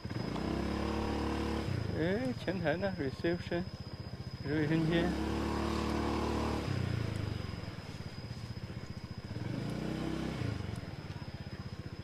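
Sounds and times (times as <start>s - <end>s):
small motorcycle engine: 0.0s - 12.0s.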